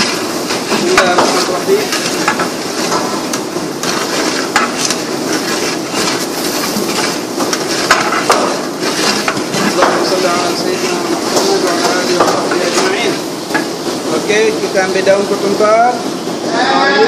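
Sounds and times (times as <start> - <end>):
ladle scraping and knocking a pot: 0.0 - 14.1
vegetables sizzling in hot oil: 0.0 - 17.0.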